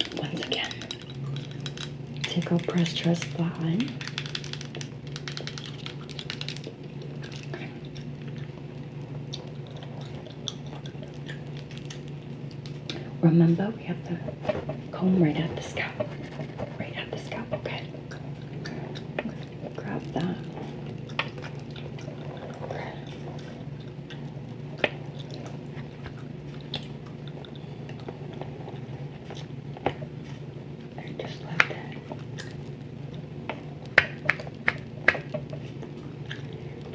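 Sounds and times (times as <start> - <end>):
gum chewing: 0.0 - 13.1, 15.8 - 36.9
steady low hum: 0.0 - 36.9.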